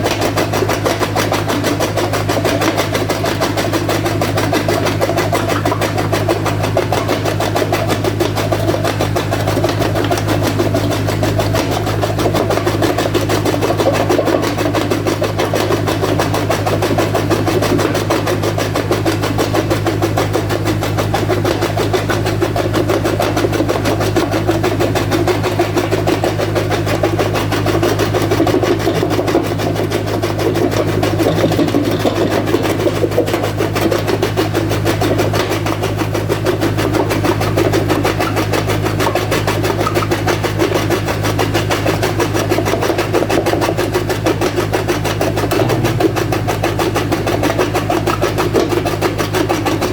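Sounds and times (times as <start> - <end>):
crusher machine rattling hum: 0.0 - 49.9.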